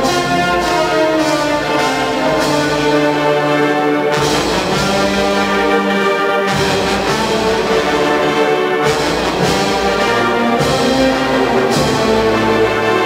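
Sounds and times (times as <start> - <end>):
wind band playing a march: 0.0 - 13.0.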